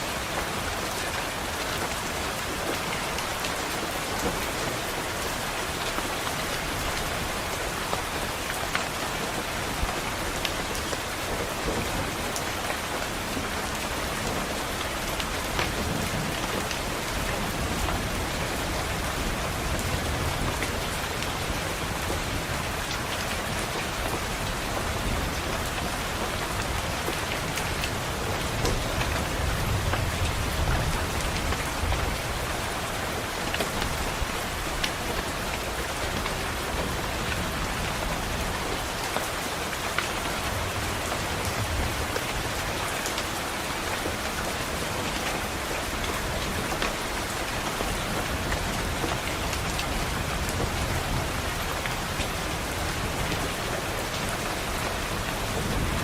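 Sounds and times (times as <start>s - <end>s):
rain tapping on a window: 0.0s - 56.0s.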